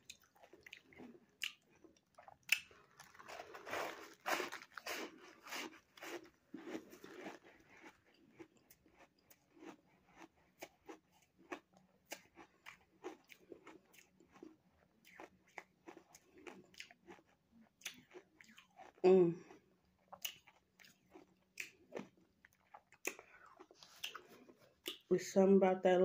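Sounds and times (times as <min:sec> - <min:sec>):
ice crunching while chewed: 0:00.0 - 0:25.1.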